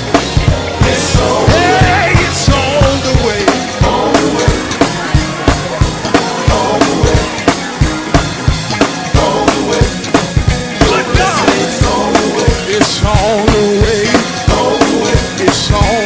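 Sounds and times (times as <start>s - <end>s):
drum kit beat: 0.0s - 16.0s
gospel band instrumental: 0.0s - 16.0s.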